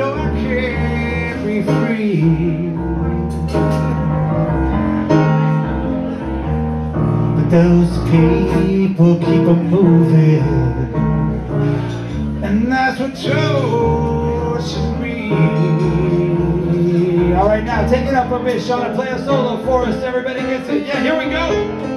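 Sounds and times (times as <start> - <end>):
electric keyboard accompaniment: 0.0 - 21.9.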